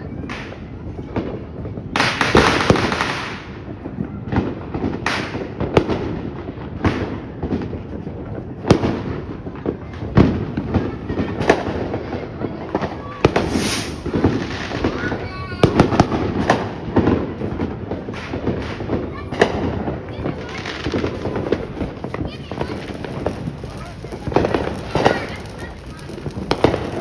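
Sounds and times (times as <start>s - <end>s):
fireworks bangs and pops: 0.0s - 27.0s
fireworks crackling: 0.2s - 27.0s.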